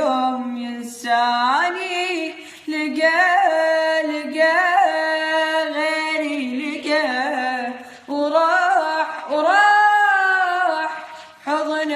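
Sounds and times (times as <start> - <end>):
person singing unaccompanied: 0.0 - 11.9.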